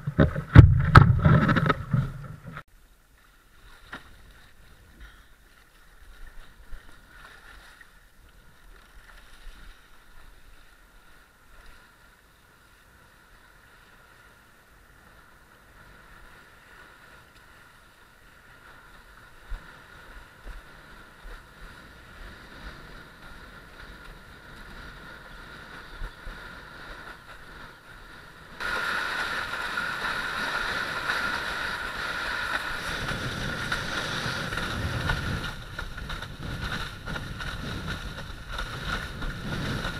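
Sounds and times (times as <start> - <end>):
rush of wind and water: 0.0 - 39.9.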